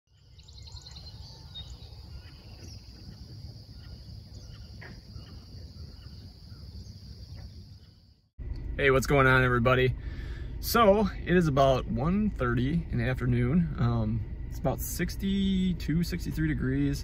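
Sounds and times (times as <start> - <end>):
low rumble: 0.2 - 17.0
high-pitched insect chorus: 0.5 - 8.3, 10.8 - 17.0.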